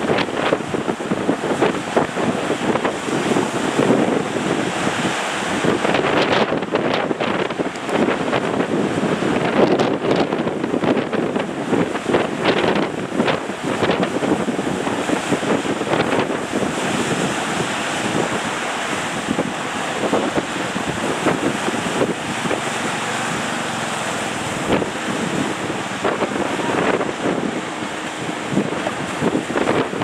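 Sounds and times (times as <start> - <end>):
waves washing: 0.0 - 30.0
wind on microphone: 0.0 - 30.0.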